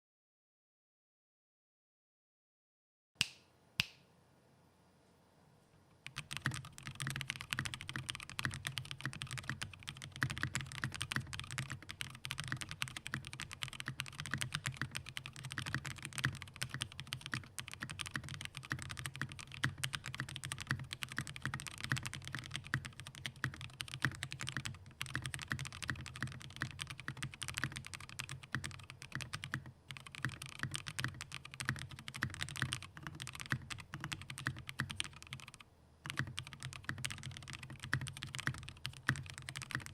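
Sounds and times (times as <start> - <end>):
mechanical keyboard typing: 6.0 - 39.9.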